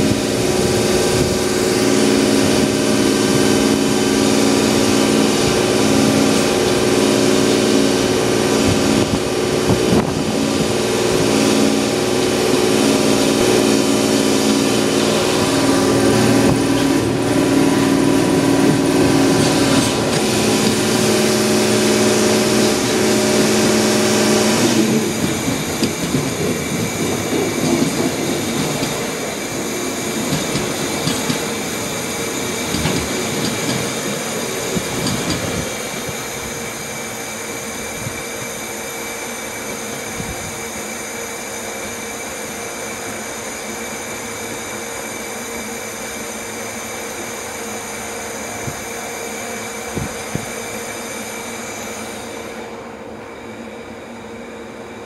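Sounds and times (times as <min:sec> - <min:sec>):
train wheels clattering on rails: 0:00.0 - 0:52.4.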